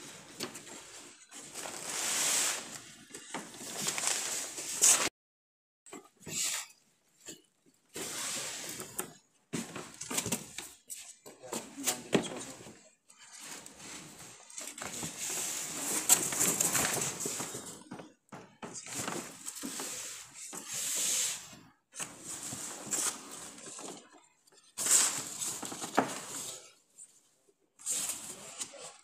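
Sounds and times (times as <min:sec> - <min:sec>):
cardboard and paper rustling: 0:00.0 - 0:05.1, 0:07.9 - 0:21.4, 0:22.0 - 0:26.9.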